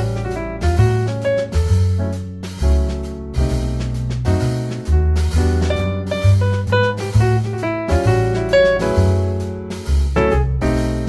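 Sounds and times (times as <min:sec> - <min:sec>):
instrumental music with plucked guitar: 0:00.0 - 0:11.0.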